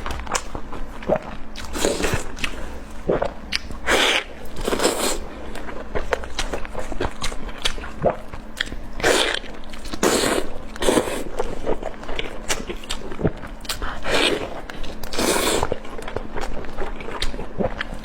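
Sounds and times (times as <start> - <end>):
wet chewing: 0.0 - 18.0
biting and sucking food: 1.1 - 15.8.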